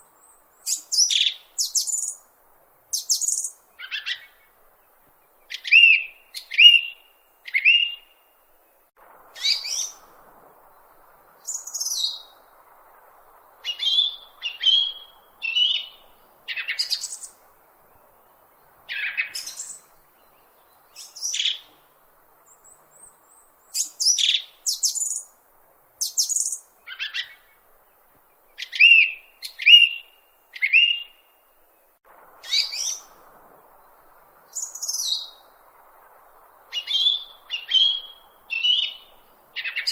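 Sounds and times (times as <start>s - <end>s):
bird chirping: 0.0s - 2.3s, 2.9s - 4.5s, 5.2s - 8.8s, 9.4s - 25.4s, 26.0s - 39.9s.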